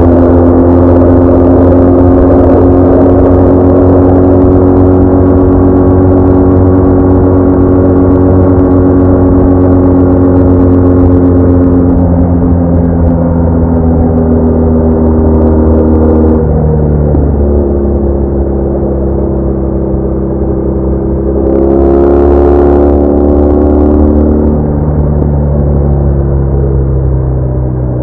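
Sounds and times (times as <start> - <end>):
motorcycle engine droning: 0.0 - 28.0.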